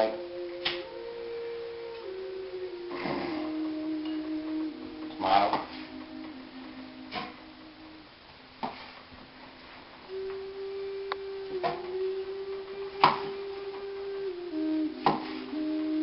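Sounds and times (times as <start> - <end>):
soft held musical tones: 0.0 - 16.0.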